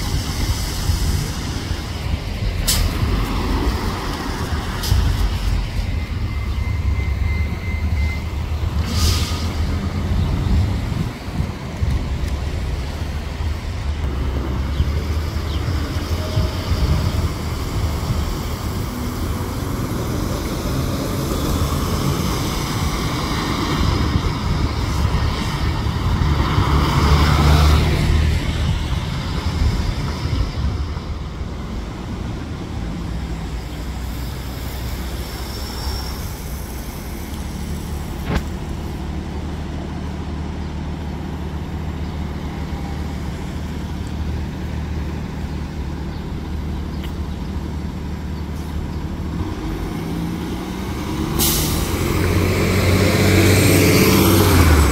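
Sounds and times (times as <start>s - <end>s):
city traffic driving past: 0.0s - 54.9s
diesel bus engine humming: 0.0s - 54.9s.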